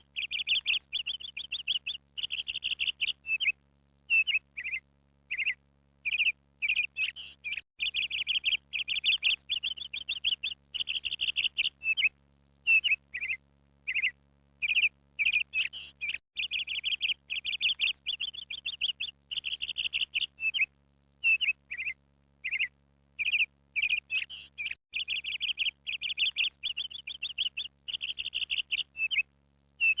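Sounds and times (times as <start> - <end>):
bird chirping and trilling: 0.2 - 3.5, 4.1 - 12.1, 12.7 - 29.2, 29.8 - 30.0.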